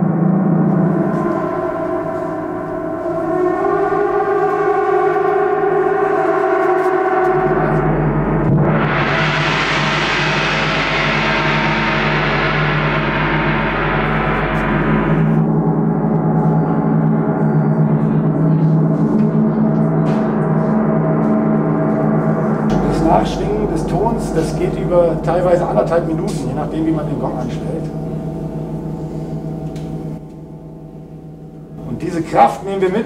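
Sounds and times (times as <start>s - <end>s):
gong ringing: 0.0s - 33.0s.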